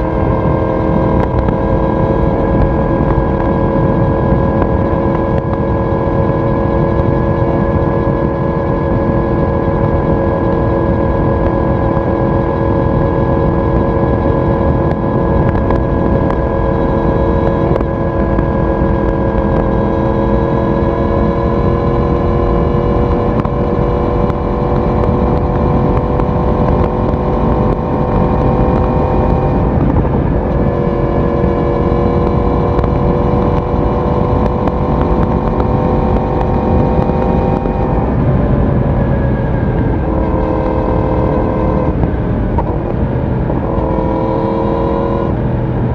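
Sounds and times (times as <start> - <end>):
dense rushing noise: 0.0 - 45.9
motorcycle exhaust cruising: 0.0 - 45.9.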